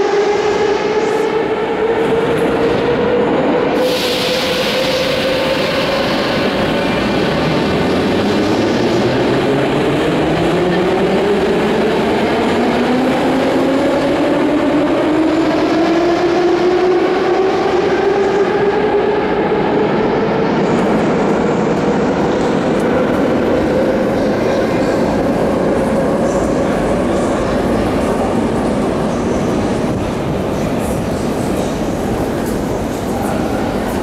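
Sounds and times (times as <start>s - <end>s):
train running and rail noise: 0.0s - 34.0s.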